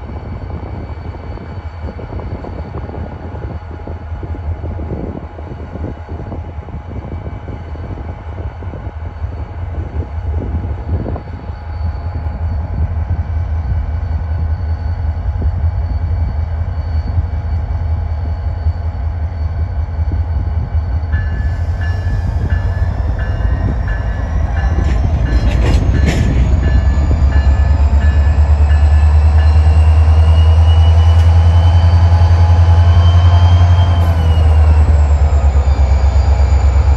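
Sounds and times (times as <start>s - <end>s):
train rumbling: 0.0s - 36.9s.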